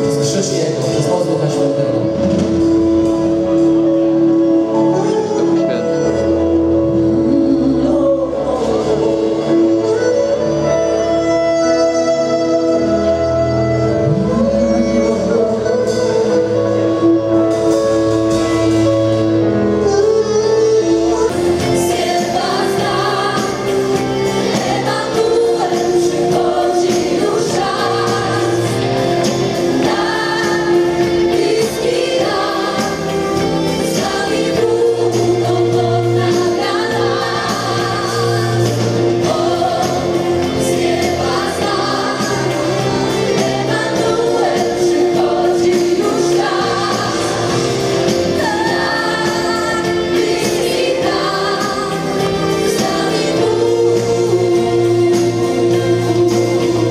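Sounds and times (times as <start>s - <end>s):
gospel choir singing: 0.0s - 56.9s
live band with beat and bass: 0.0s - 56.9s.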